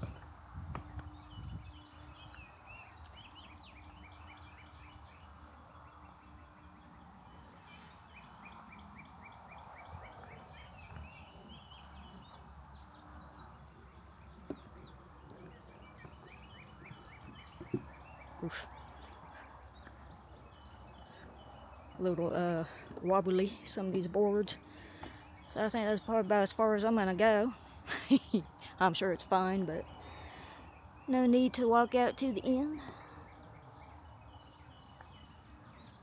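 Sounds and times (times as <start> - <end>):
faint low outdoor rumble: 0.0 - 36.0
songbirds chirping: 0.0 - 36.0.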